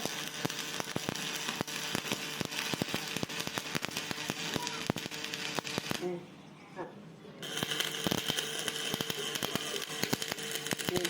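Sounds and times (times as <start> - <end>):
welding arc crackling and popping: 0.0 - 6.1, 7.4 - 11.0.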